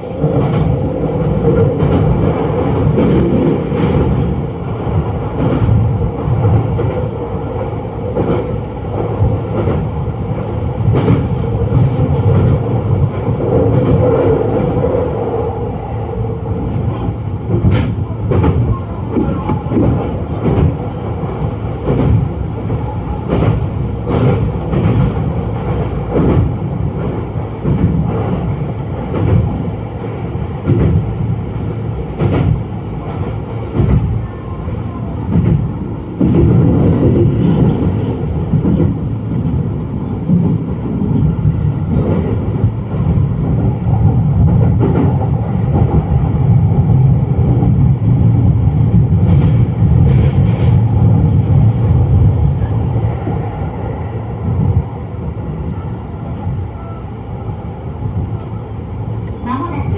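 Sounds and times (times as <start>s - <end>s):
electric train rumble: 0.0s - 59.9s.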